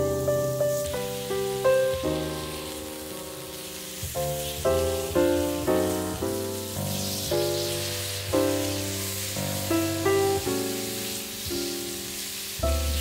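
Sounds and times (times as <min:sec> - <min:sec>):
meat sizzling on a griddle: 0:00.0 - 0:13.0
piano-like chords music: 0:00.0 - 0:13.0.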